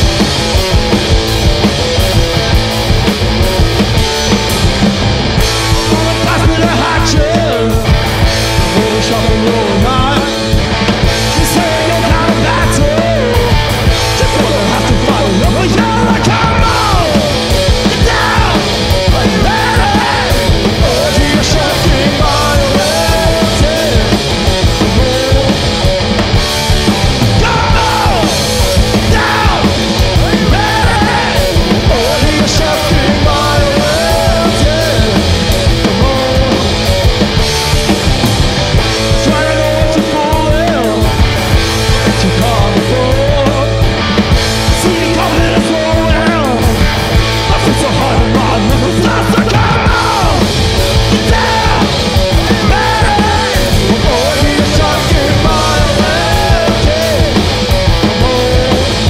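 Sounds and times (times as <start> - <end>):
drums: 0.0 - 59.0
electric guitar: 0.0 - 59.0
punk rock band playing: 0.0 - 59.0.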